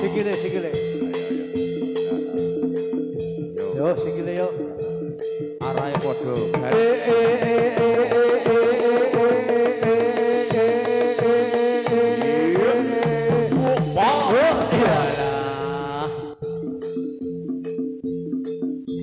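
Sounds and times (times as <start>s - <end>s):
gamelan music: 0.0s - 19.0s
hand drum beating: 0.0s - 19.0s.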